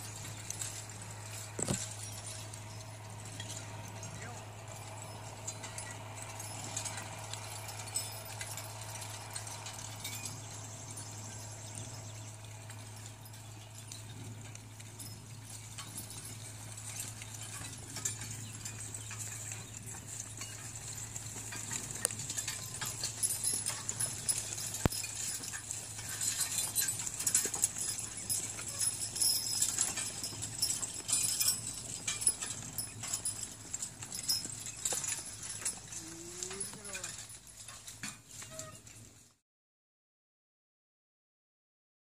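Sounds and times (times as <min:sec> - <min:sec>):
harness and chains clinking: 0:00.0 - 0:39.4
harrow parts rattling: 0:00.0 - 0:39.4
hoof steps: 0:00.0 - 0:39.4.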